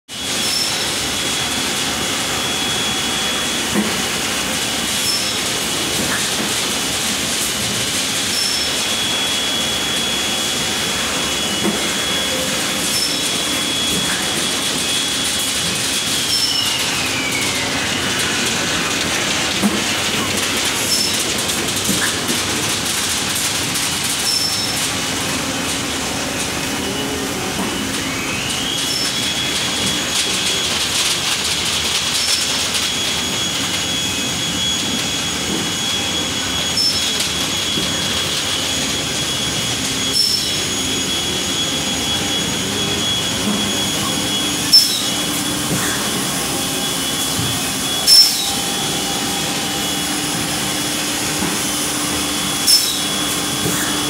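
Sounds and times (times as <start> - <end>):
machine hum and hiss: 0.1 - 54.0
high whine: 0.2 - 54.0.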